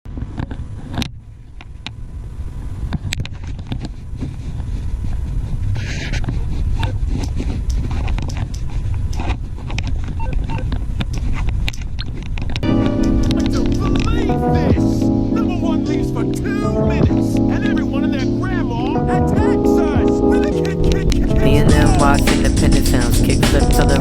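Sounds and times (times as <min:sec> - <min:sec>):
moving vehicle rumble: 0:00.1 - 0:24.0.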